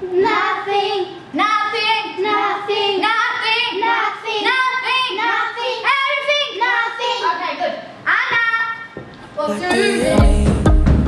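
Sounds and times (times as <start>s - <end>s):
girl singing: 0.0s - 10.5s.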